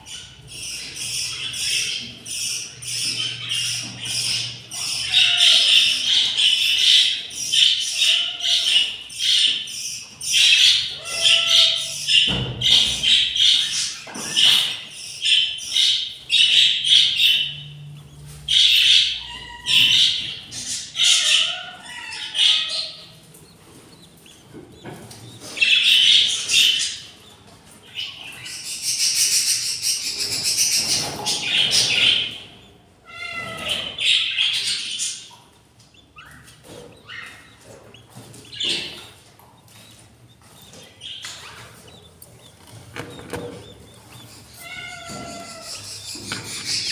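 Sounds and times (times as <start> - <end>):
budgerigars chirping and squawking: 0.0 - 46.9.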